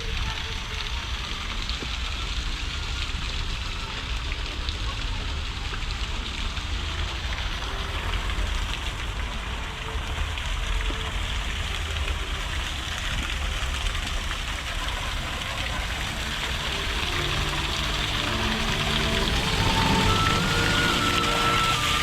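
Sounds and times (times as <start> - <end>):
waterfall splashing: 0.0 - 22.0.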